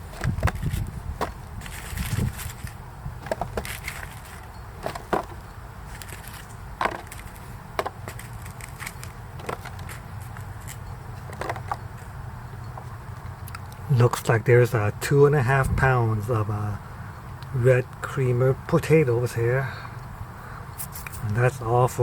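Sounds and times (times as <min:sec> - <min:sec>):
low steady rumble: 0:00.0 - 0:17.7.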